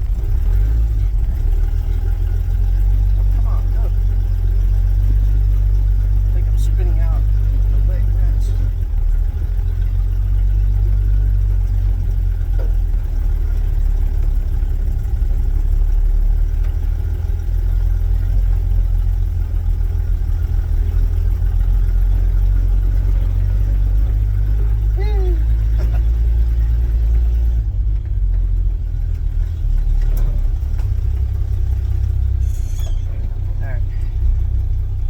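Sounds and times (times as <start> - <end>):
pickup truck engine rumbling: 0.0 - 35.0.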